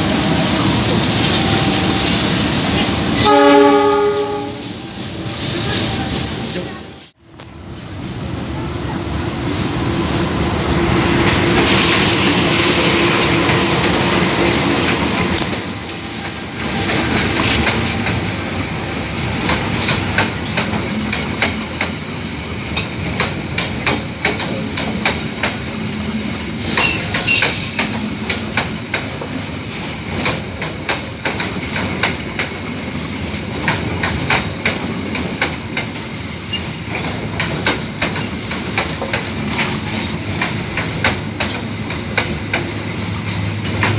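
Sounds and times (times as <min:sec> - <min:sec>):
train wheels clacking on rails: 0:00.0 - 0:07.1, 0:08.5 - 0:43.9
locomotive rumbling: 0:00.0 - 0:43.9.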